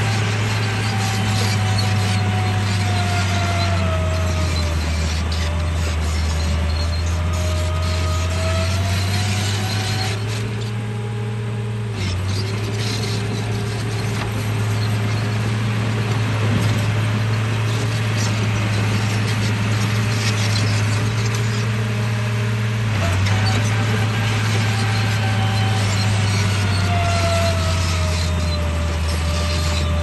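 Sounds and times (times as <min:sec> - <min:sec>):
toy bulldozer motors clattering: 0:00.0 - 0:10.9, 0:12.0 - 0:22.1, 0:23.0 - 0:30.0.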